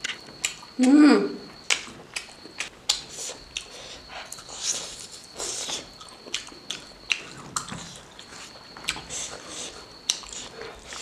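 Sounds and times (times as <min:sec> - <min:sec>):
person chewing with smacking mouth: 0:00.0 - 0:00.9, 0:01.5 - 0:11.0.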